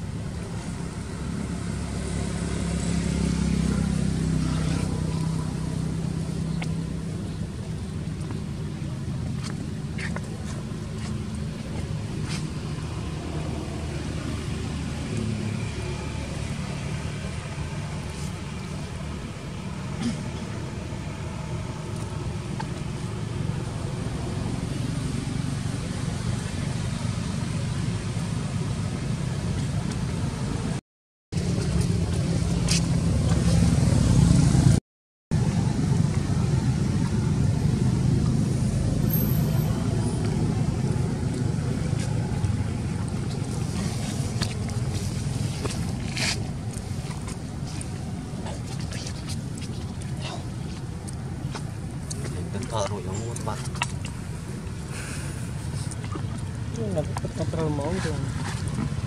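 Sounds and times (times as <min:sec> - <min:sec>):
low outdoor rumble: 0:00.0 - 0:30.8, 0:31.4 - 0:59.0.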